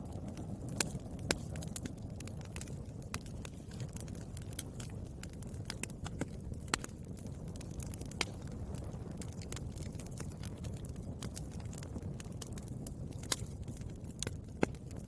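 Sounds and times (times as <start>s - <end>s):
burning wood crackling: 0.0s - 15.0s
campfire flames rumbling: 0.0s - 15.0s
fire pops: 0.0s - 15.0s.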